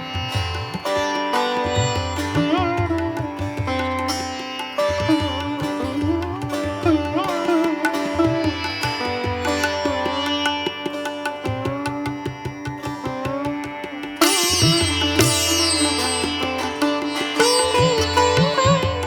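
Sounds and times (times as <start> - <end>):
plucked-string melody: 0.0 - 19.0.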